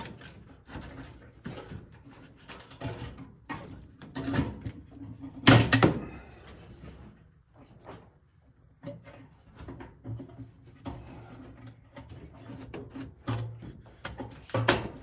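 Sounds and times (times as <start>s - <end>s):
knocks and scrapes handling fixture: 0.0s - 8.2s, 8.8s - 15.0s.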